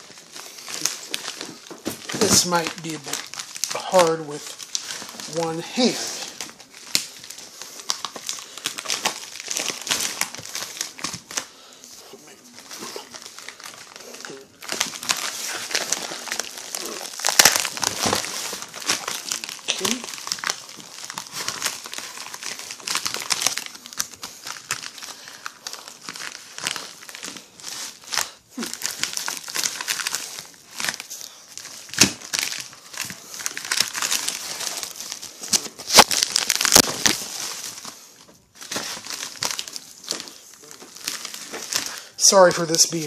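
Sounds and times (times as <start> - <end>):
plastic envelope crinkling: 0.0 - 43.0.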